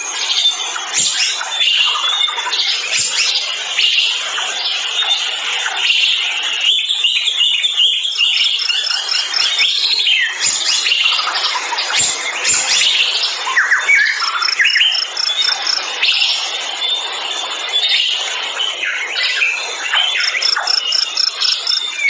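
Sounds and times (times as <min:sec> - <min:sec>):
forest birds chirping and trilling: 0:00.0 - 0:22.0.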